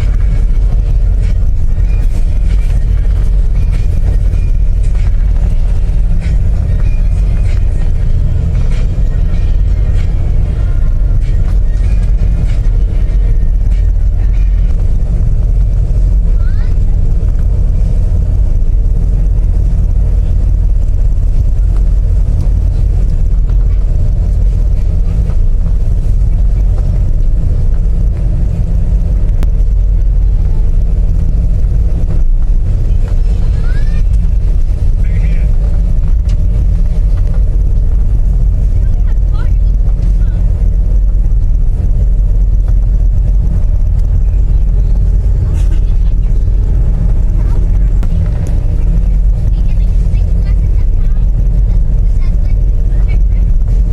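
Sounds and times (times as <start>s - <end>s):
ship engines droning: 0.0s - 53.9s.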